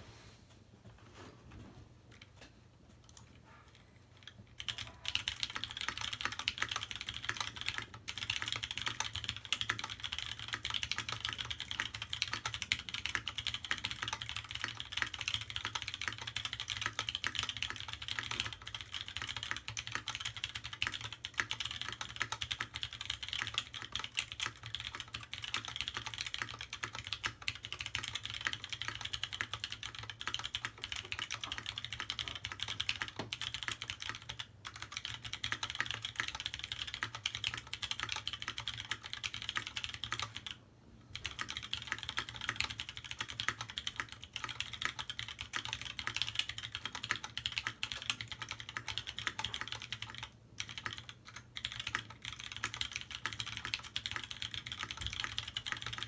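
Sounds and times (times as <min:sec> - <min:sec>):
mechanical keyboard typing: 0:04.1 - 0:56.0.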